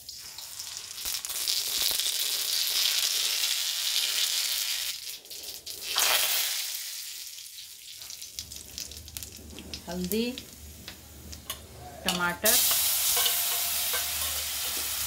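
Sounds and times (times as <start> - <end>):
mustard seeds sizzling in hot oil: 0.0 - 15.0.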